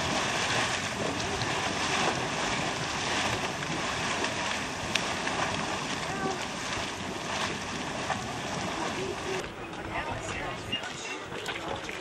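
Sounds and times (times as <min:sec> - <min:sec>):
muddy water churning and splashing: 0:00.0 - 0:12.0.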